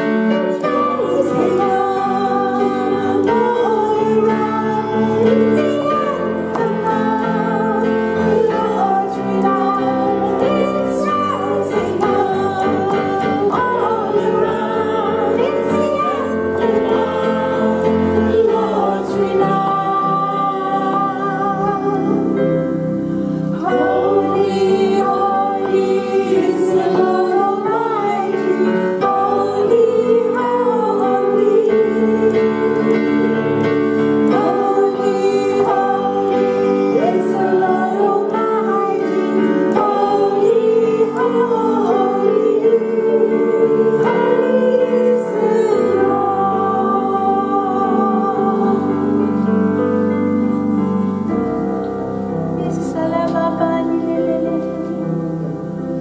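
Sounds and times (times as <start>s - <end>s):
electronic keyboard chords: 0.0s - 56.0s
women singing: 0.0s - 56.0s.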